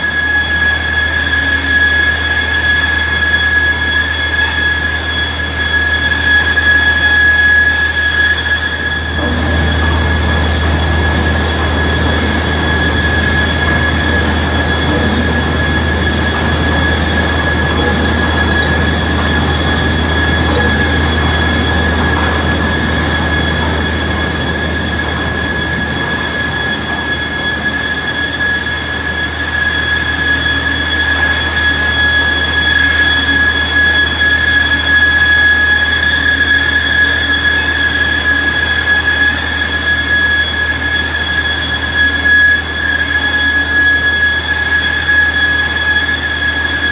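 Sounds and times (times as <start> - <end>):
planer machine whining: 0.0 - 46.9.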